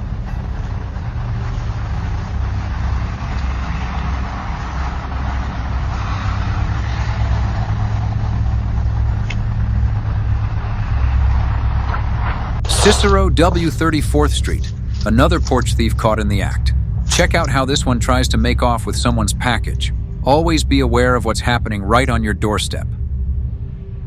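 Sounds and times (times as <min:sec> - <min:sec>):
street traffic rumble: 0:00.0 - 0:23.9.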